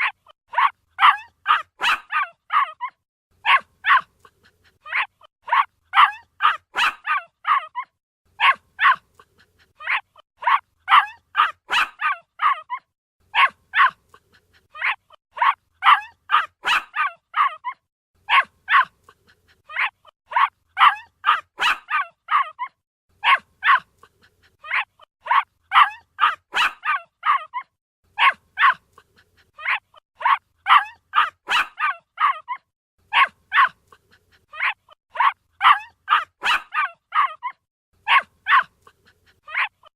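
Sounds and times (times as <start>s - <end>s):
puppy barking: 0.0s - 39.9s.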